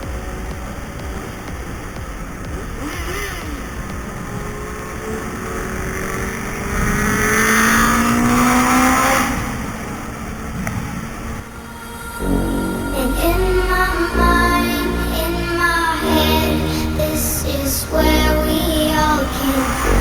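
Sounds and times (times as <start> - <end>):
low wind rumble: 0.0 - 20.0
vehicle engine under load: 0.0 - 20.0.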